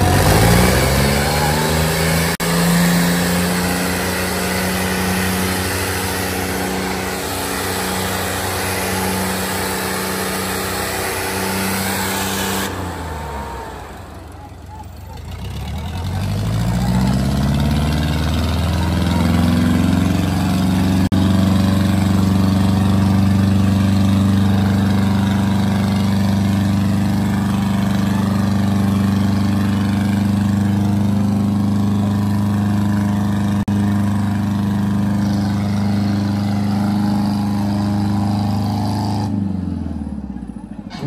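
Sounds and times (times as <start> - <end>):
tractor engine straining at high revs: 0.0 - 41.0.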